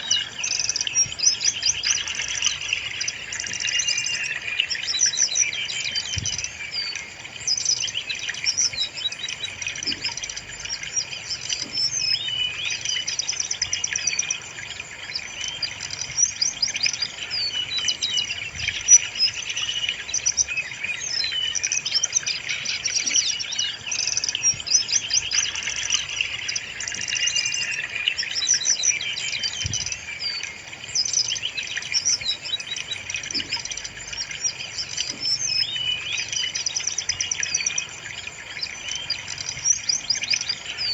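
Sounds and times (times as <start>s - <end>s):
bird song with rapid chirps: 0.0s - 40.9s.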